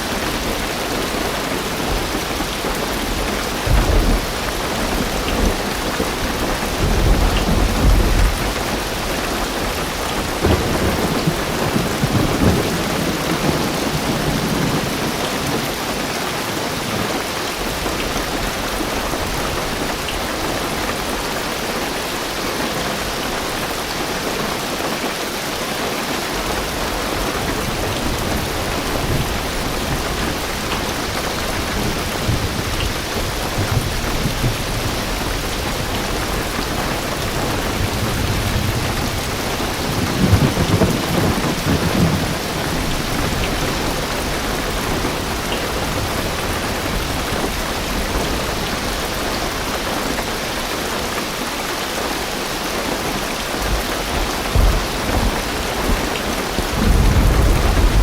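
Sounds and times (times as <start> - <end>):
heavy rain drumming on car roof: 0.0 - 58.0
thunder rumbling: 0.2 - 20.0, 26.5 - 50.2, 53.0 - 58.0.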